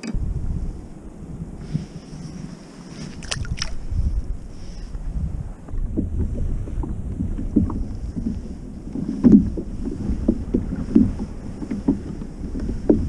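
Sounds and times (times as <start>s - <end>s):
waves slapping against kayak hull: 0.0s - 13.0s
wind rumble on microphone: 0.0s - 13.0s.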